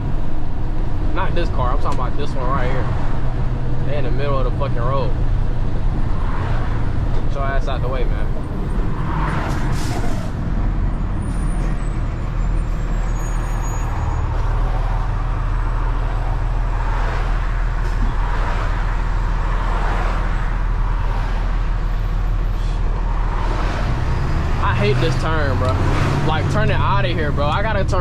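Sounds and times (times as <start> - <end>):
road noise: 0.0 - 28.0
truck diesel engine rumbling: 0.0 - 28.0.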